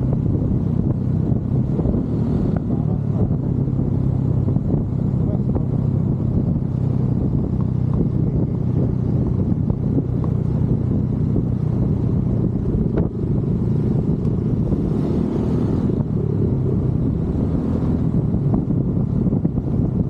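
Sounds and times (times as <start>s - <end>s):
motorcycle engine and road noise: 0.0s - 20.0s.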